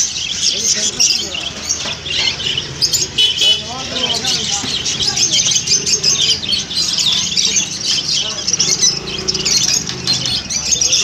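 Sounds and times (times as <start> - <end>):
small parrots chirping and chattering: 0.0 - 11.0.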